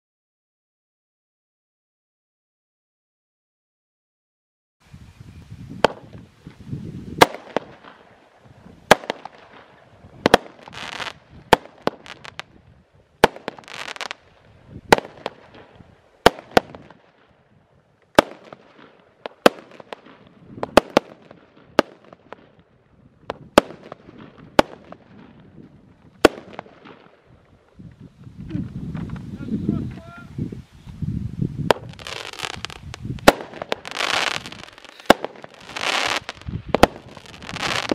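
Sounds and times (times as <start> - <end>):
firework hissing crackle: 5.5 - 29.8, 30.5 - 37.9.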